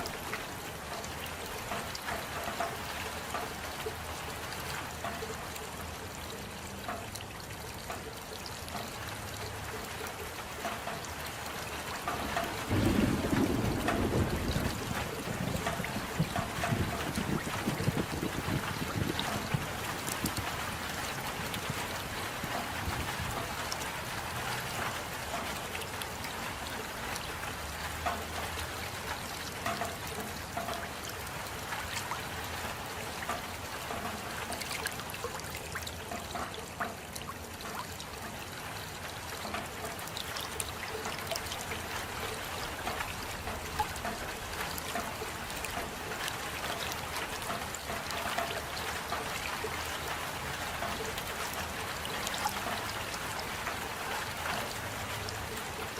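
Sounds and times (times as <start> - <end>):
raindrops ticking: 0.0 - 55.9
steady rain hissing: 0.0 - 55.9.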